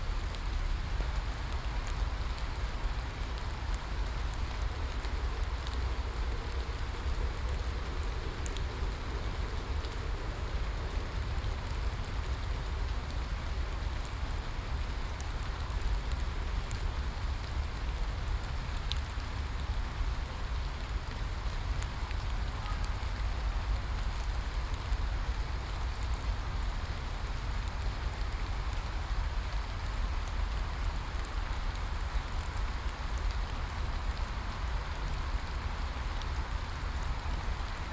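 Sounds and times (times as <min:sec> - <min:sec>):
steady rain hiss: 0:00.0 - 0:37.9.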